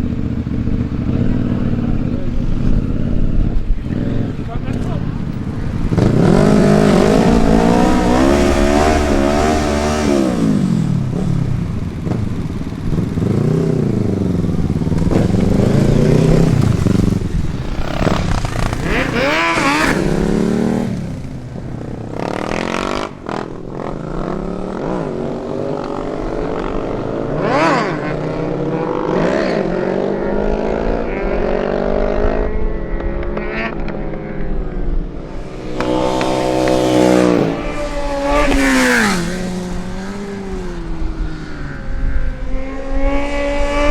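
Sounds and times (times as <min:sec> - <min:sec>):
vehicle engines revving: 0:00.0 - 0:43.9.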